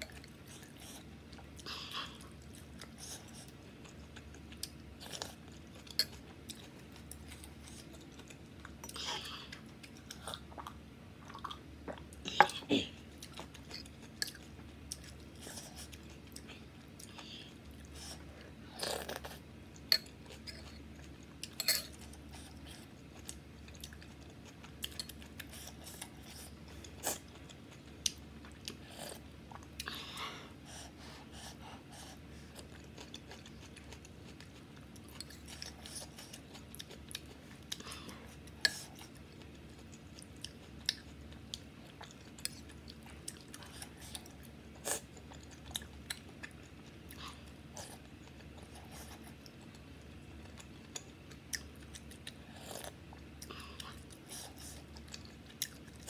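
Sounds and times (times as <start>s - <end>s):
person chewing: 0.0s - 30.2s, 31.4s - 56.0s
steady low hum: 0.0s - 56.0s.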